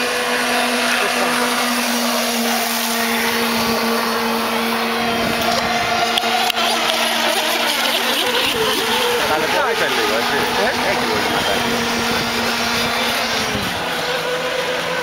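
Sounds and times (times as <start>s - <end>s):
racing powerboat motor buzz: 0.0s - 15.0s.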